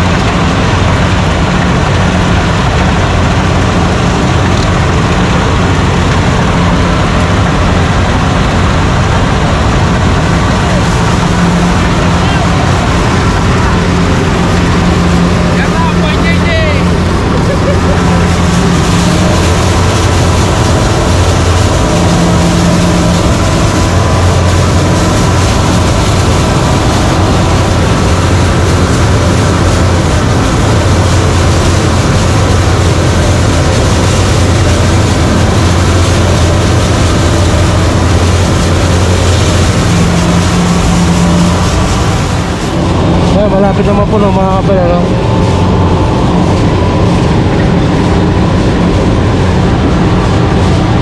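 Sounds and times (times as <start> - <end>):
combine harvester droning: 0.0 - 51.0.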